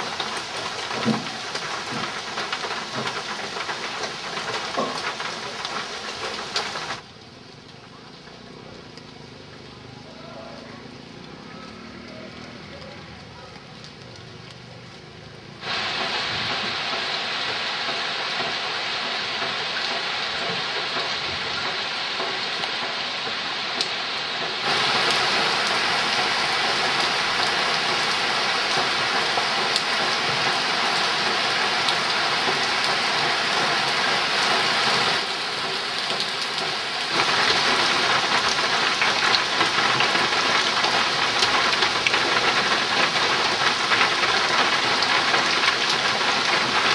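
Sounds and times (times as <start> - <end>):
heavy rain on foliage: 0.0 - 46.9.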